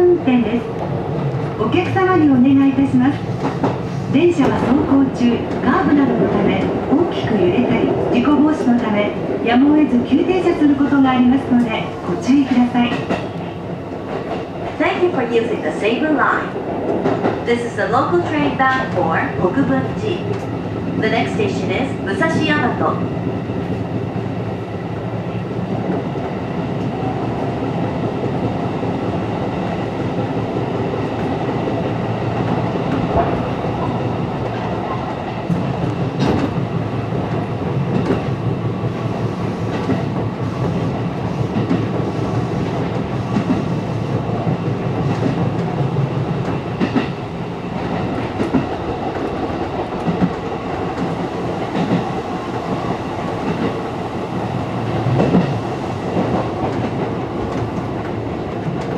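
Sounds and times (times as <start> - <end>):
electric train rumbling: 0.0 - 58.9.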